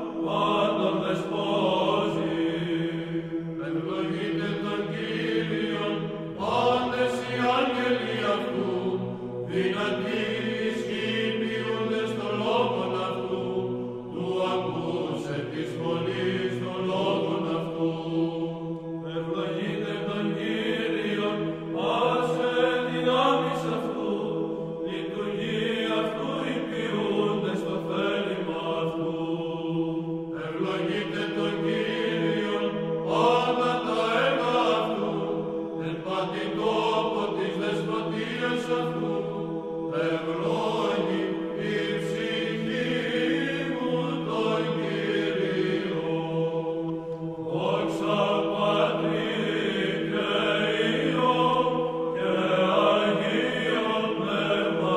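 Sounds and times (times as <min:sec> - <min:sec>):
chanted sung melody: 0:00.0 - 0:54.9.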